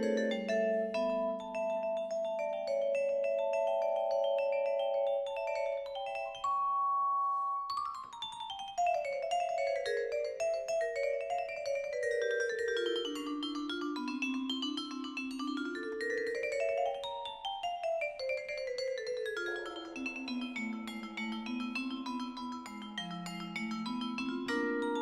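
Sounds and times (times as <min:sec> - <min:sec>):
tuned mallet percussion music: 0:00.0 - 0:25.0.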